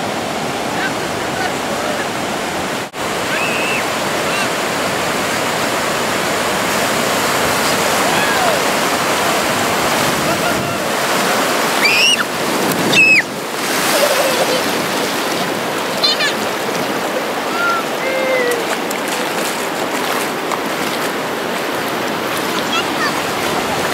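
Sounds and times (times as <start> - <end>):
waves washing through shallow water: 0.0 - 23.9.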